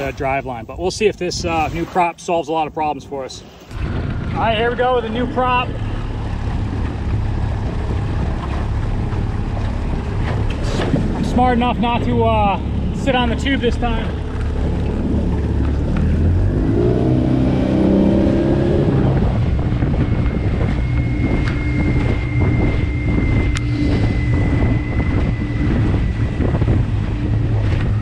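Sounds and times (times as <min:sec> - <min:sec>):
wind buffeting microphone: 0:00.0 - 0:28.0
outboard motor revving with high whine: 0:03.5 - 0:28.0.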